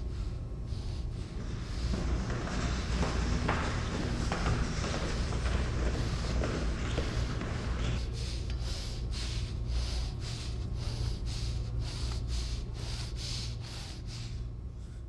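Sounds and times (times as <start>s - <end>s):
low steady hum: 0.0s - 15.0s
person breathing heavily: 0.0s - 15.0s.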